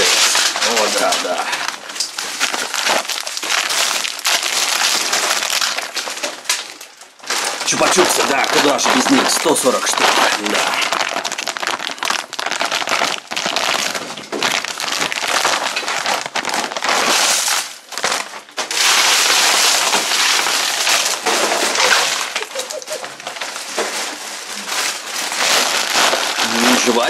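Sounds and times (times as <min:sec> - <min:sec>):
wrapped lollipops clattering: 0:00.0 - 0:27.0.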